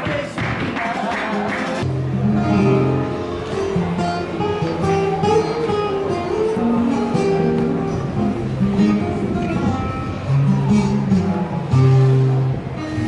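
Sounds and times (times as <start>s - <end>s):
flamenco acoustic guitar: 0.0s - 13.0s.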